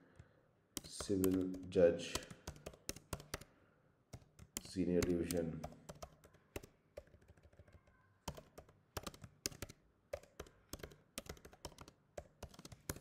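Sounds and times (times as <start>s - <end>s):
keyboard typing: 0.8s - 3.5s, 4.1s - 13.0s.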